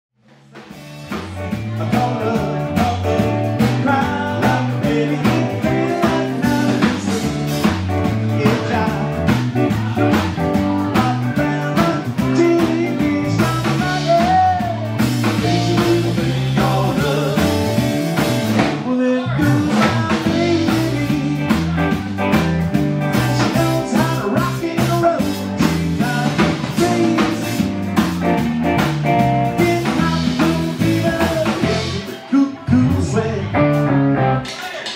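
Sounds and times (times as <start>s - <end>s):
bass guitar: 0.2s - 34.9s
drum kit: 0.2s - 34.9s
electric guitar: 0.3s - 34.9s
man singing: 1.1s - 28.1s, 29.2s - 34.9s.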